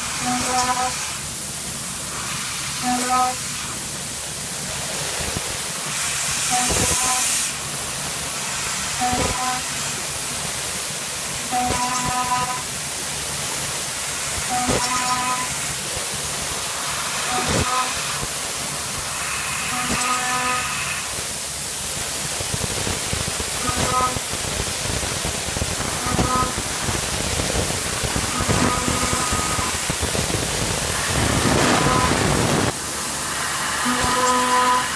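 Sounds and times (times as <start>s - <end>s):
milling machine hissing: 0.0s - 34.9s.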